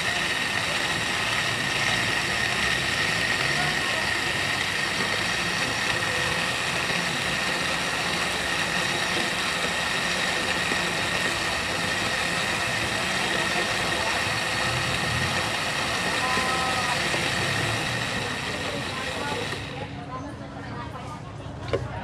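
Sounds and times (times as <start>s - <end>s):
blender motor whining: 0.0s - 19.9s
smoothie churning in jug: 0.0s - 19.9s.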